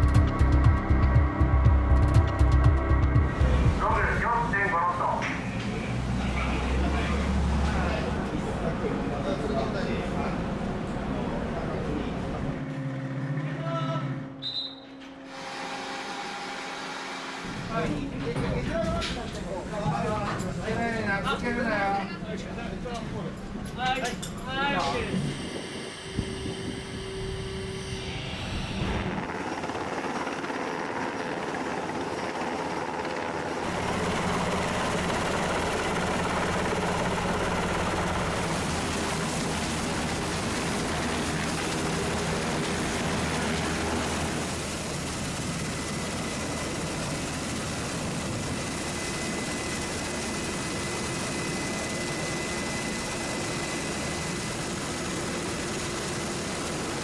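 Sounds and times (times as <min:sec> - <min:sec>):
helicopter turbine and rotor roar: 0:00.0 - 0:13.5, 0:15.3 - 0:57.0.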